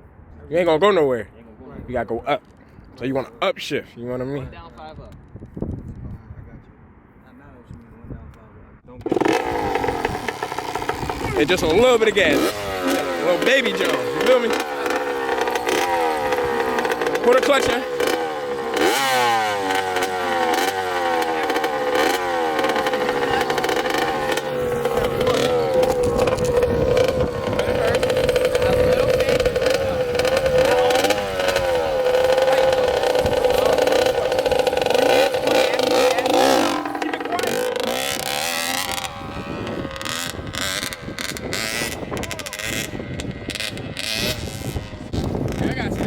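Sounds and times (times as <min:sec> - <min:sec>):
dirt bike engine revving: 0:09.0 - 0:46.0.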